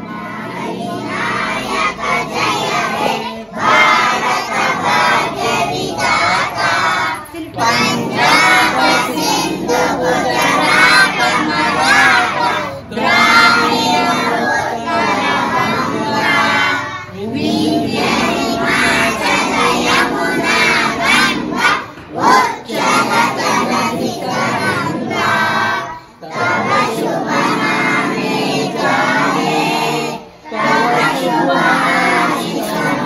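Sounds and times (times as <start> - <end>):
children singing in unison: 0.0 - 33.0.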